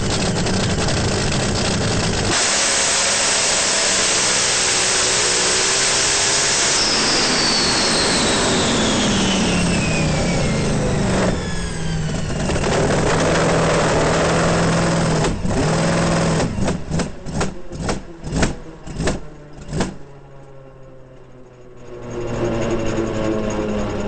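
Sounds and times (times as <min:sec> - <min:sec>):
drag racing engine whine: 0:00.0 - 0:24.0
low hum: 0:00.0 - 0:24.0.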